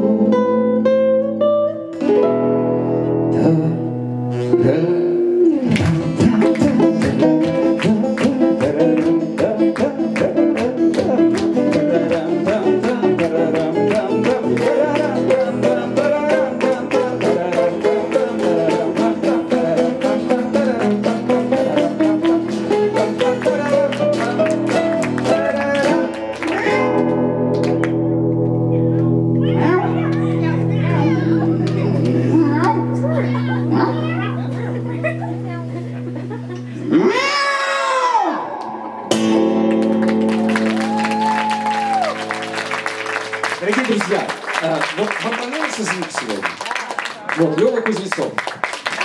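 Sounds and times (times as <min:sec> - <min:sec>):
guitars playing: 0:00.0 - 0:49.0.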